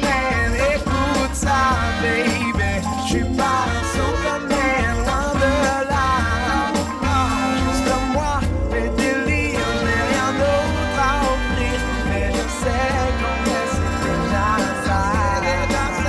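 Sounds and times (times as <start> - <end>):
pop song with singing: 0.0 - 16.0.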